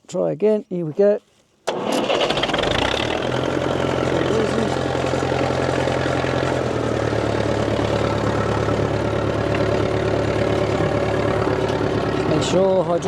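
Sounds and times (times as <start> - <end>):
tractor diesel engine idling: 1.7 - 13.0.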